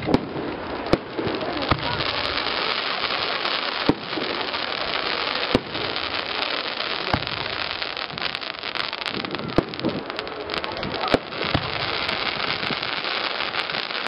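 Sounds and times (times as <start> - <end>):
crackling firework sparks: 0.0 - 14.0
firework shells bursting: 0.0 - 14.0.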